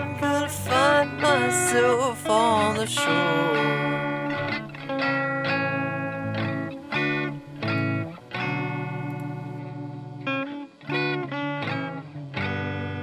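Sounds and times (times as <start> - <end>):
effects guitar playing chords: 0.0 - 13.0.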